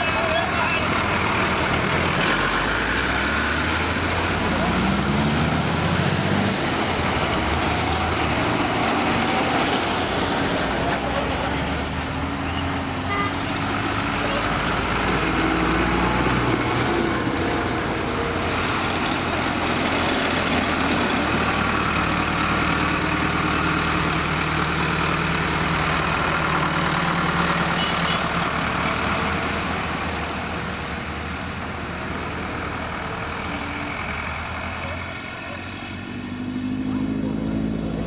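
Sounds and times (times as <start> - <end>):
diesel tractor engines passing: 0.0 - 38.0.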